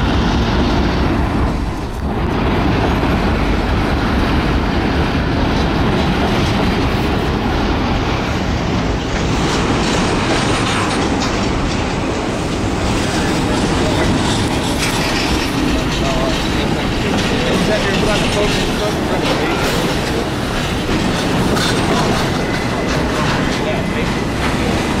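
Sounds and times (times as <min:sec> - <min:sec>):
freight train rumbling past: 0:00.0 - 0:25.0
wheels clicking over rail joints: 0:01.0 - 0:25.0.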